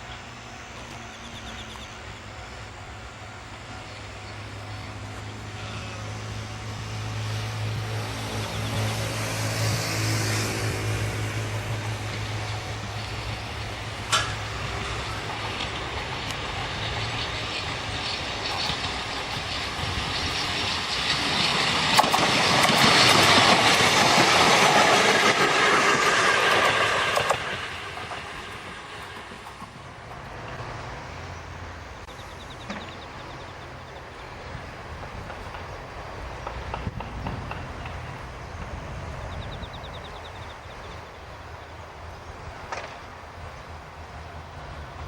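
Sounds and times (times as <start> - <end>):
electric train wheel clatter: 0.0 - 45.0.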